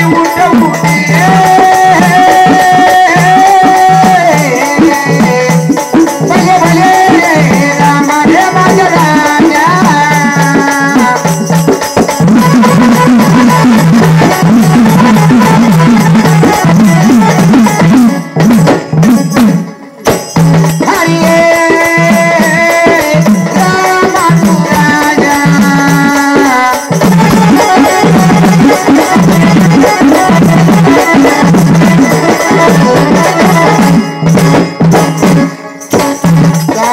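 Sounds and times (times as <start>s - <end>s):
folk drum rhythm: 0.0s - 36.9s.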